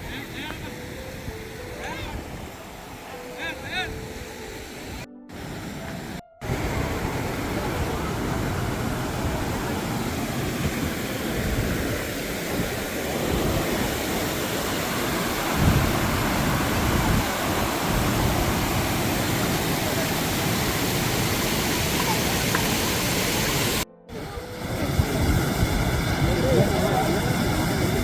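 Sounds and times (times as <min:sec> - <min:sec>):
waterfall rushing: 0:00.0 - 0:28.0
wind buffeting microphone: 0:00.0 - 0:28.0.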